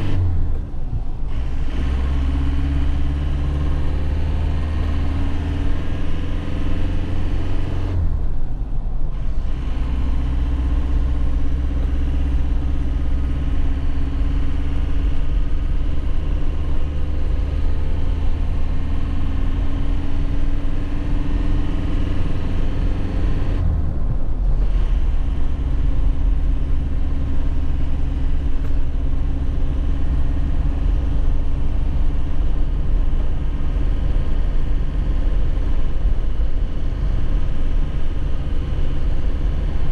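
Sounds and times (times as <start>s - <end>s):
low road rumble: 0.0s - 39.9s.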